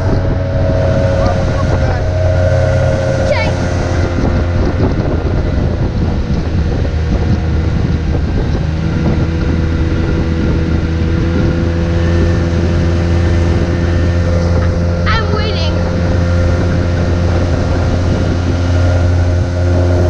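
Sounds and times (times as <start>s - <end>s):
outboard motor running: 0.0s - 20.0s
water rushing past hull: 0.0s - 20.0s
wind buffeting microphone: 0.0s - 20.0s.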